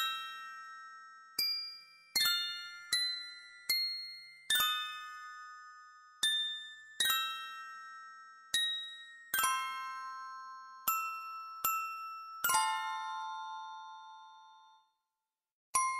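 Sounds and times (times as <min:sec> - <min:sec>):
glockenspiel-like bell notes: 0:00.0 - 0:15.1.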